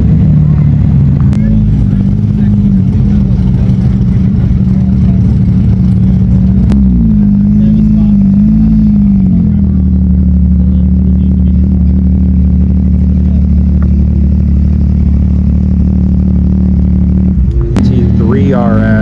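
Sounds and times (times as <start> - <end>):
sports car engine idling: 0.0 - 19.0.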